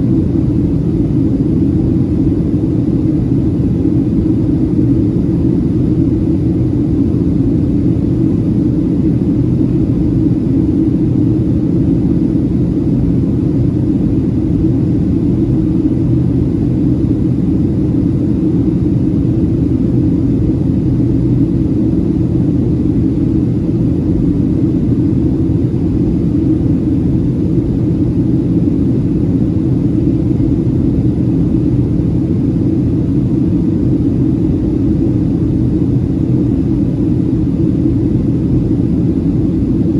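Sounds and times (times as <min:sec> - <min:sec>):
airplane cabin rumble: 0:00.0 - 0:39.9
faint steady drone: 0:00.0 - 0:39.9.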